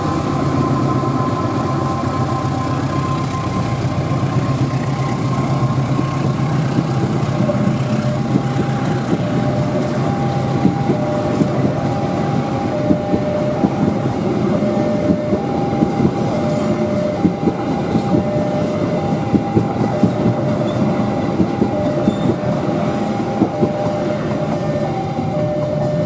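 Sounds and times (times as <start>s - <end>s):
train rumble: 0.0s - 26.0s
train wheels clacking on rail joints: 0.0s - 26.0s
two-tone crossing alarm: 0.0s - 26.0s.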